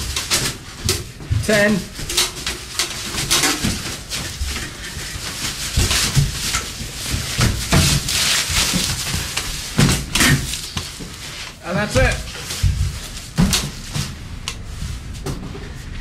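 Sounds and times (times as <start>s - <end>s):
thuds and rustling of scuffling: 0.0s - 16.0s.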